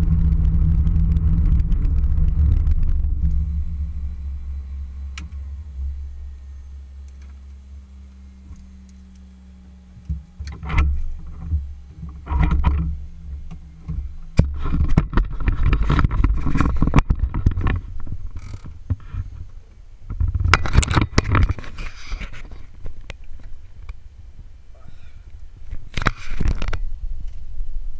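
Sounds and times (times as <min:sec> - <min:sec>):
rustling and scraping: 0:00.0 - 0:24.0, 0:25.6 - 0:27.7
low hum: 0:00.0 - 0:27.9.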